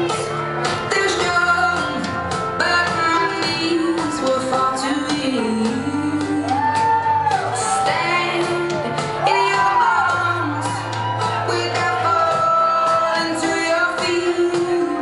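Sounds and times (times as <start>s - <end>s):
woman singing a pop song: 0.0s - 15.0s.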